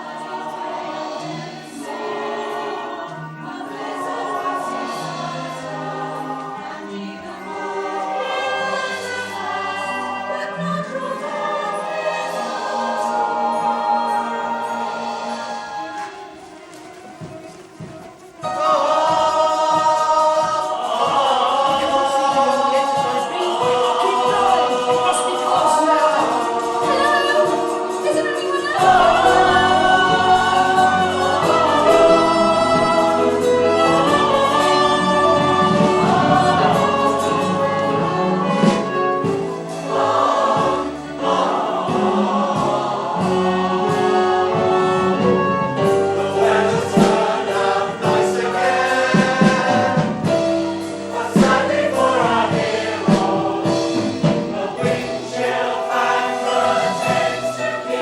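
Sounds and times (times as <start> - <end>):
chorus singing show tune: 0.0 - 58.0
instrumental accompaniment: 0.0 - 58.0.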